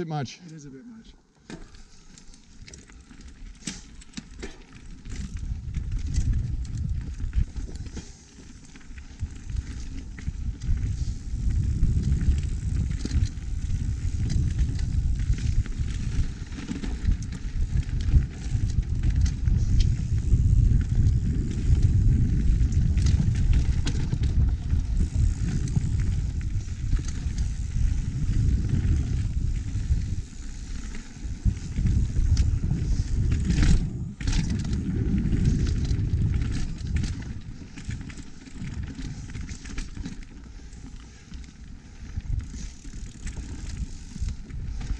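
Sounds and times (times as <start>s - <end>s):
bike clicks and rattles: 1.3s - 44.9s
wind on microphone: 5.0s - 8.1s, 9.0s - 40.1s, 41.8s - 44.9s.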